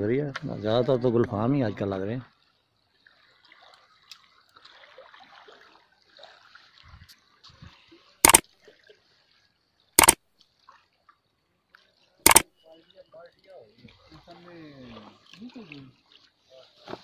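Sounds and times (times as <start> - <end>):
trickling lapping water: 1.8 - 12.2, 12.8 - 16.8.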